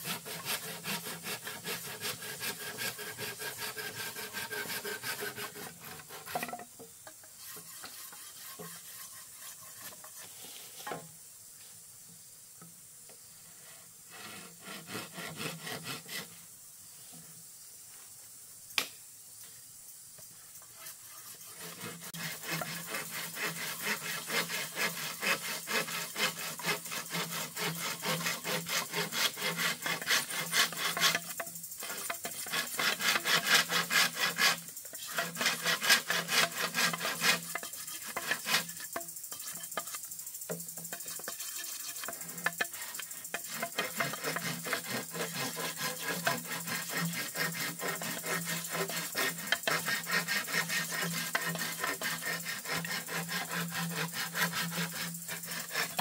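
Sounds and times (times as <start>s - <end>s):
blade rasping bamboo: 0.0s - 11.0s, 14.1s - 16.4s, 20.7s - 56.0s.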